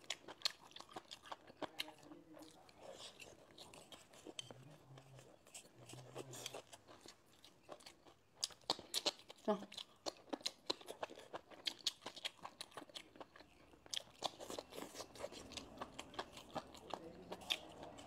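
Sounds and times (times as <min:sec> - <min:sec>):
chewing crisp mushrooms: 0:00.0 - 0:18.0.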